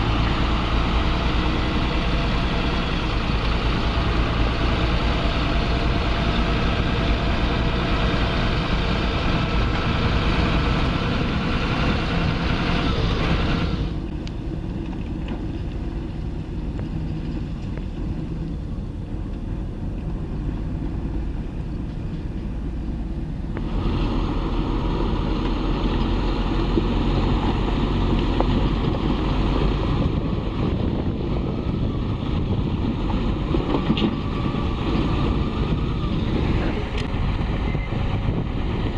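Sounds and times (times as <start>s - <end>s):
heavy machinery engines running: 0.0s - 38.9s.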